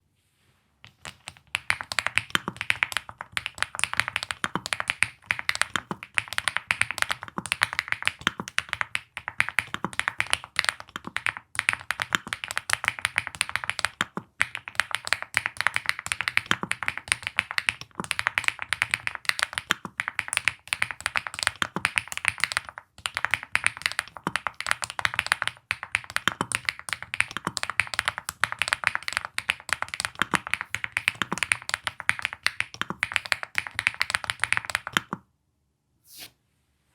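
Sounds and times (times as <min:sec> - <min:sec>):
fast typing on keyboard: 0:00.8 - 0:35.2.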